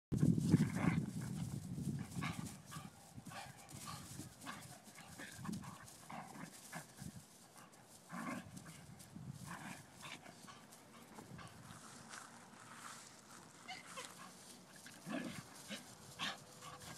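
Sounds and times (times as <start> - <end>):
dogs play-fighting: 0.4 - 11.7, 13.7 - 16.9.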